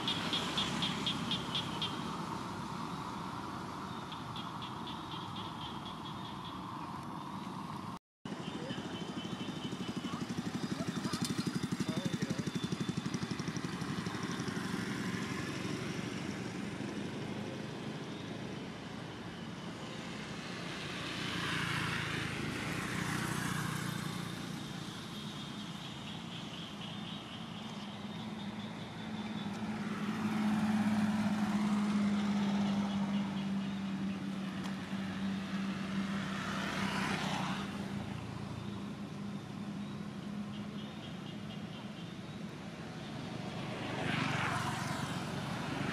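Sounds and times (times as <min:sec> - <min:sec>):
vehicles passing: 0:00.0 - 0:45.9.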